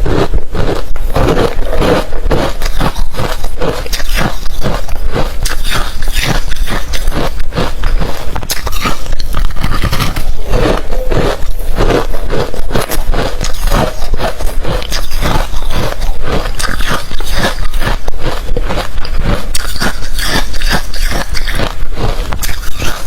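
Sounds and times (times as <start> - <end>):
crunching and chewing ice: 0.0 - 23.0.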